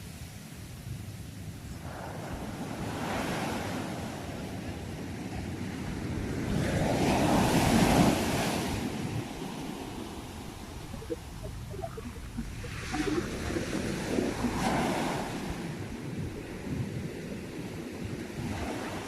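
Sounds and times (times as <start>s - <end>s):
sea waves washing onto shore: 1.8s - 19.0s.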